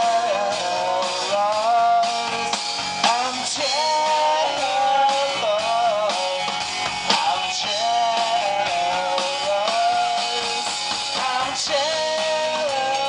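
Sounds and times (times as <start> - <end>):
bass guitar: 0.0 - 13.0
drum kit with cymbal hits: 0.0 - 13.0
electric guitar: 0.0 - 13.0.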